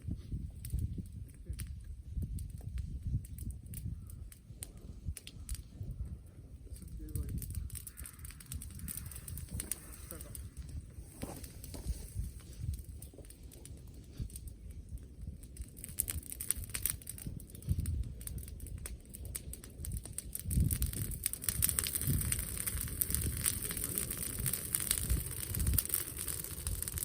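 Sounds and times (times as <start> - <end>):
bonfire crackling and popping: 0.0 - 27.0
wind buffeting microphone: 0.0 - 27.0.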